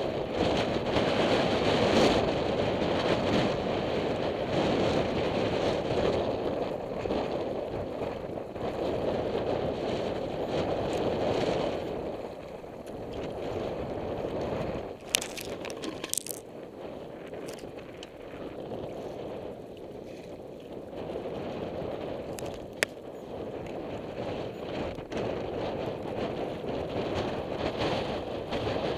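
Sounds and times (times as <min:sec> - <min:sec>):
wind blowing in gusts: 0:00.0 - 0:28.9.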